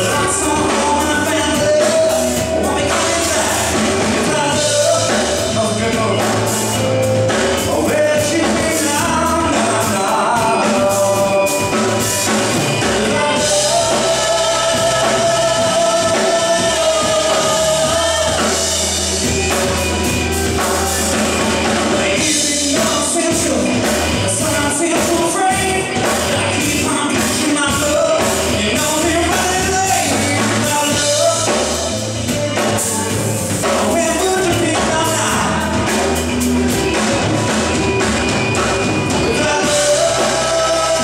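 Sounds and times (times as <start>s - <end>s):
man singing: 0.0s - 19.8s, 20.4s - 37.0s, 38.9s - 41.0s
drum kit with crashing cymbals: 0.0s - 41.0s
electric guitar: 0.0s - 41.0s.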